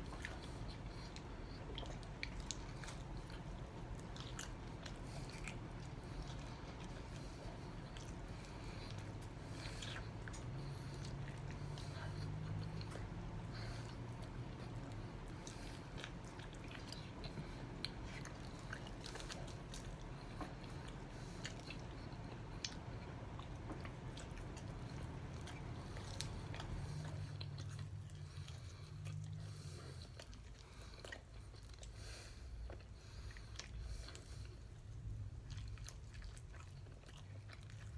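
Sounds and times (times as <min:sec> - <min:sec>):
chewing chicken wings: 0:00.0 - 0:37.9.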